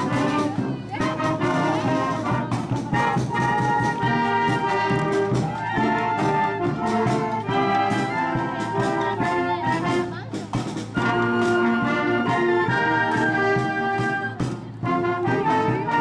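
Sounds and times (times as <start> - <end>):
steady percussion beat: 0.0 - 16.0
trumpets and trombones melody: 0.0 - 16.0
wind band playing brisk tune: 0.0 - 16.0.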